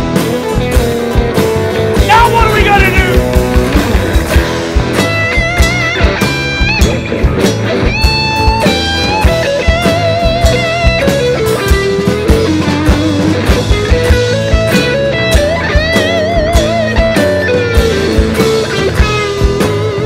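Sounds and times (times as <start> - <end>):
blues-rock band playing: 0.0 - 20.0
lead guitar bent notes: 0.0 - 20.0.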